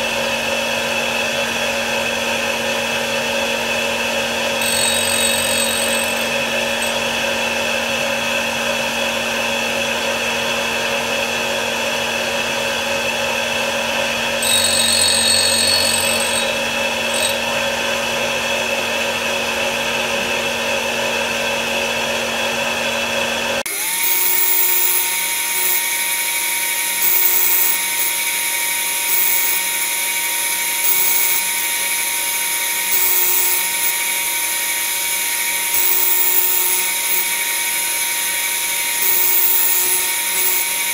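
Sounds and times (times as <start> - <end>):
tool grinder whining: 0.0 - 40.9.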